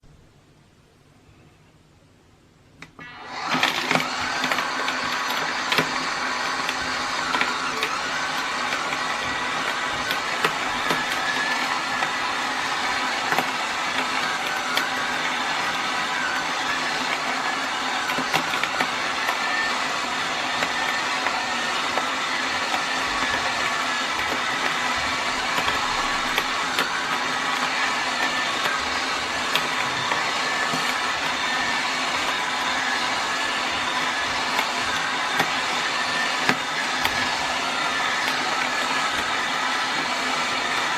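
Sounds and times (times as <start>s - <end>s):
clicks: 2.7s - 40.9s
coffee grinder grinding beans: 3.0s - 40.9s.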